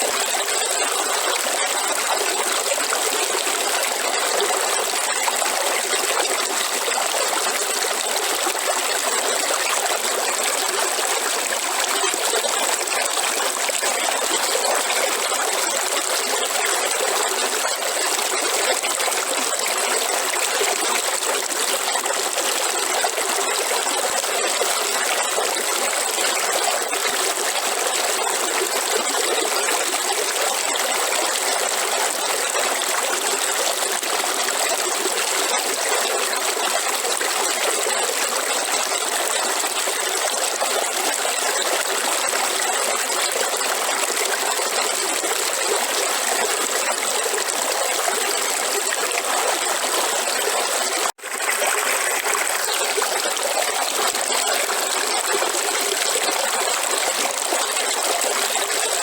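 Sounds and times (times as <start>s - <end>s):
river water flowing: 0.0s - 24.1s, 24.7s - 59.0s.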